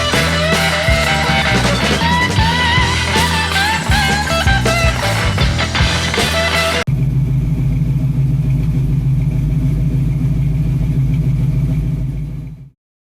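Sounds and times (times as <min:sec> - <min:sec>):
car engine idling: 0:00.0 - 0:12.7.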